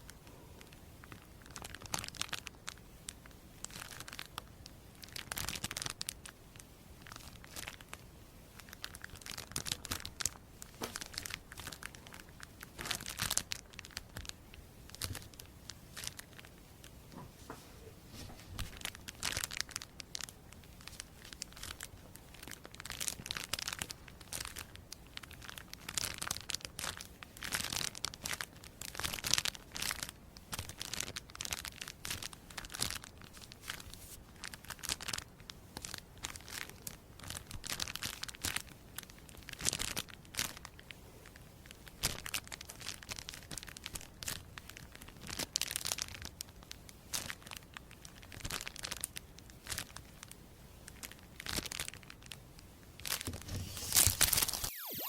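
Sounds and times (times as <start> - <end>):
crinkling and crackling: 0.0 - 54.9.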